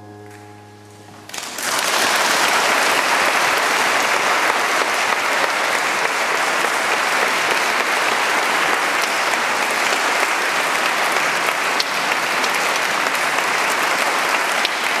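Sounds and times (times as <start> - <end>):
audience applauding: 1.3 - 15.0.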